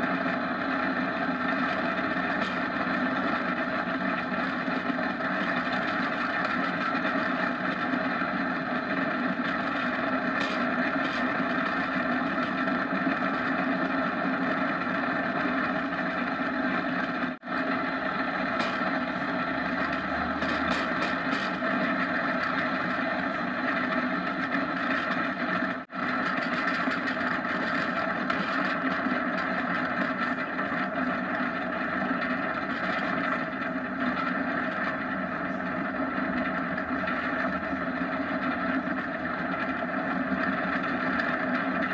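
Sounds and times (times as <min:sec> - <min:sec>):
go-kart speeding on asphalt: 0:00.0 - 0:41.9.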